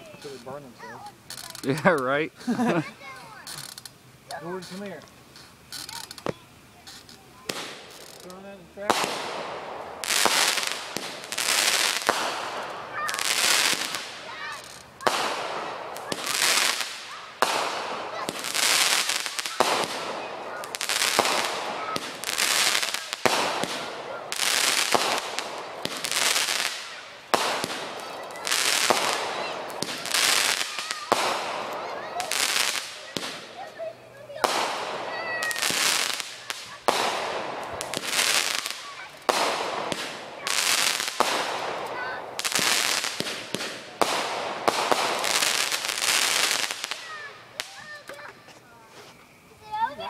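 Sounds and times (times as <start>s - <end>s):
hissing crackling spray: 0.0s - 48.9s
fireworks bangs: 4.4s - 48.5s.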